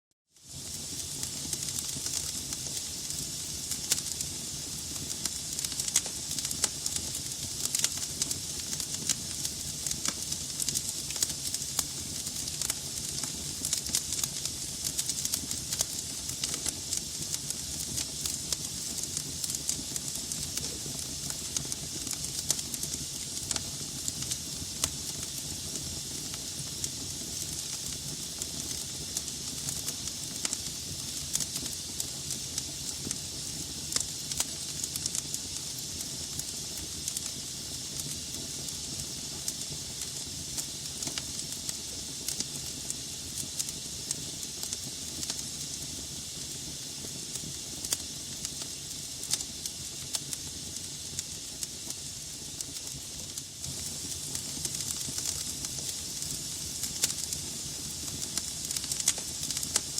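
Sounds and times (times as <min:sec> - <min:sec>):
wood fire crackling and popping: 0:00.4 - 0:59.9.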